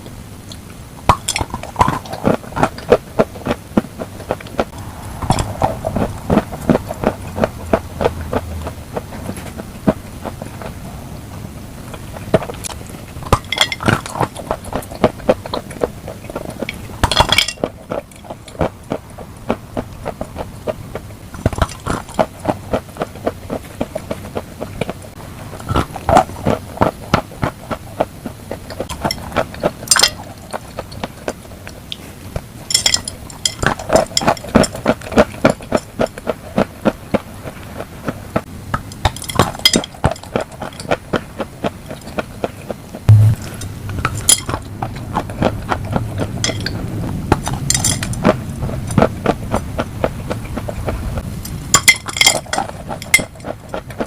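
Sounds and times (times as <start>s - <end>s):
crunchy chewing: 0.4s - 54.0s.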